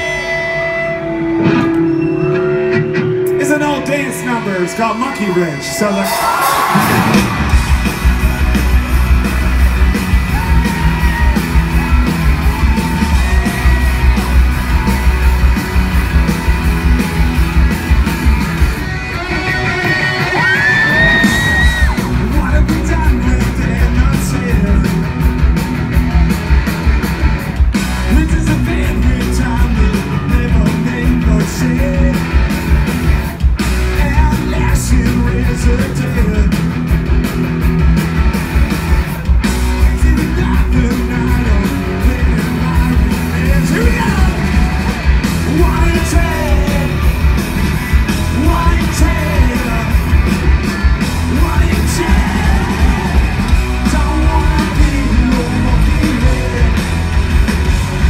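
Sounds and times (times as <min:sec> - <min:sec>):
live rock band playing: 0:00.0 - 0:58.0
lead vocal singing and shouting: 0:03.3 - 0:26.4, 0:27.8 - 0:32.4, 0:33.8 - 0:36.8, 0:39.4 - 0:58.0.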